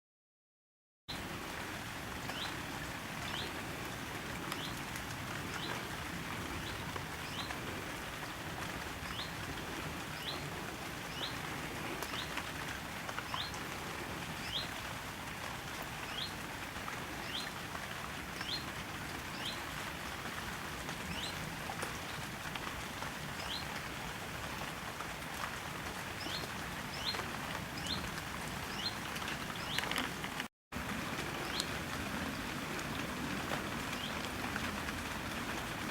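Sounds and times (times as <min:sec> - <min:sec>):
steady rain: 0:01.1 - 0:35.9.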